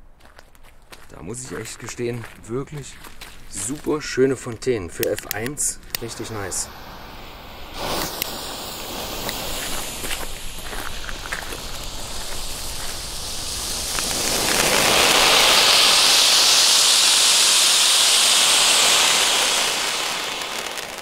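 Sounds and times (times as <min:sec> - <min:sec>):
firework fountain hissing: 0:02.7 - 0:21.0.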